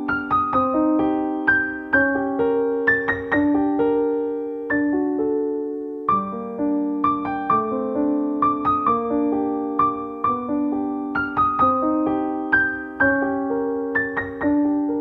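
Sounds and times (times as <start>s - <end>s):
gentle solo piano piece: 0.0s - 15.0s.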